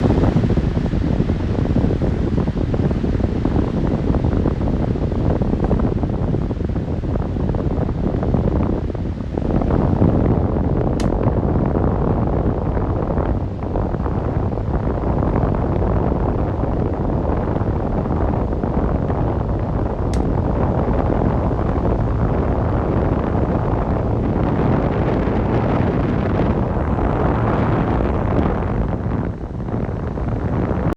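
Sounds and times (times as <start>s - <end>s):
electric fan running: 0.0s - 30.9s.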